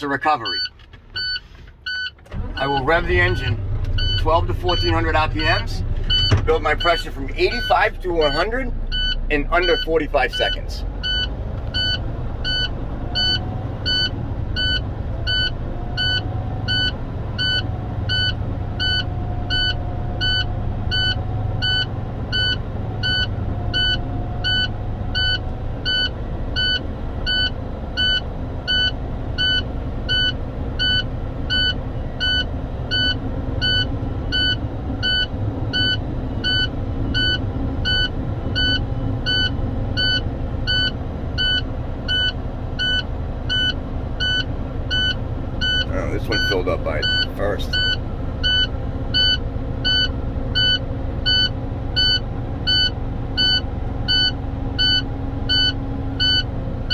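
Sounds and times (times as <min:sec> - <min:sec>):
diesel engine at raised revs: 0:00.0 - 0:56.9.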